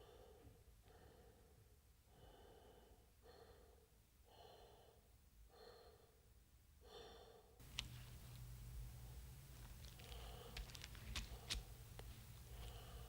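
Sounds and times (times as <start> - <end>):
faint slow breathing: 0.0 - 8.3, 9.8 - 13.0.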